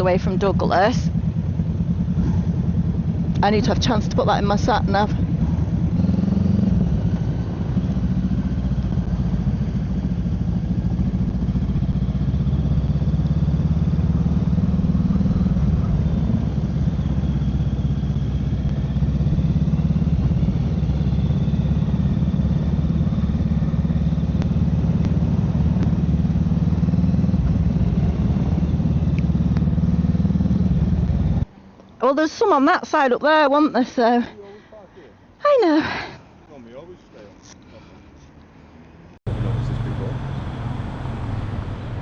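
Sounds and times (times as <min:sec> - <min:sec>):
motorcycle engine running: 0:00.0 - 0:31.5, 0:39.3 - 0:42.0.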